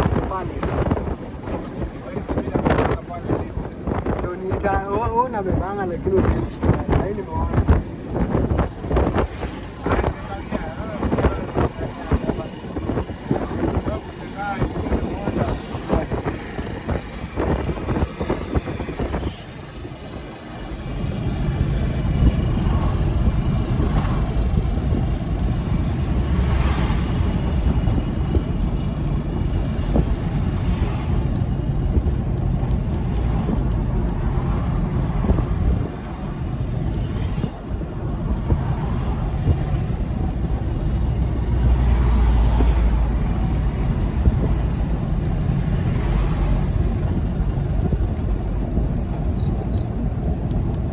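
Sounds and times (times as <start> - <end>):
truck engine rumbling: 0.0 - 50.9.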